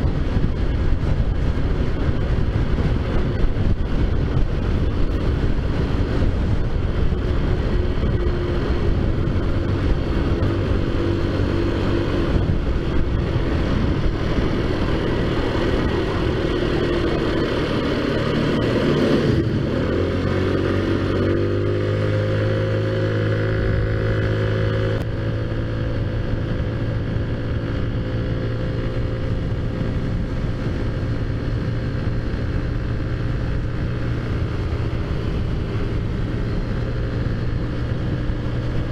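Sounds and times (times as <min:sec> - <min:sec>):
scooter engine running: 0:00.0 - 0:38.9
wind rush: 0:00.0 - 0:38.9.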